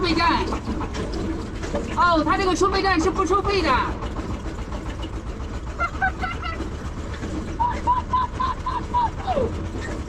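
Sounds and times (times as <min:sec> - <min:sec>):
diesel engine low rumble: 0:00.0 - 0:10.0.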